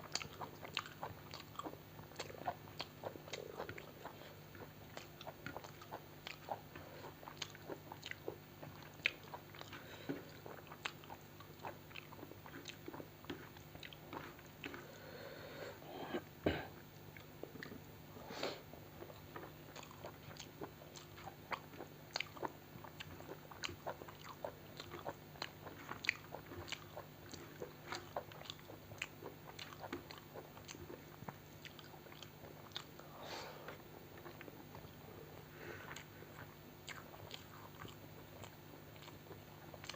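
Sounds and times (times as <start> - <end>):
person chewing and biting food: 0.0 - 15.1, 18.9 - 39.9
faint low hum: 0.0 - 39.9.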